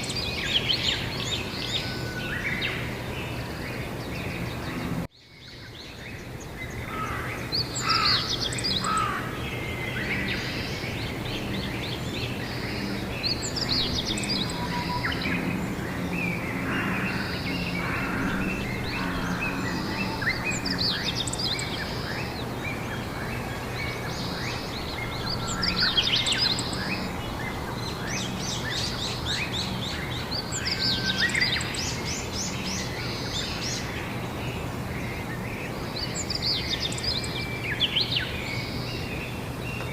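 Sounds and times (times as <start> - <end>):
birds calling softly: 0.0 - 39.9.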